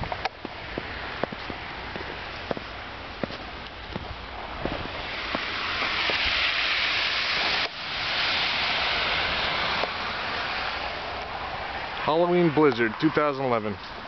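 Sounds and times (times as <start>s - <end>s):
wind rushing through trees: 0.0s - 14.0s.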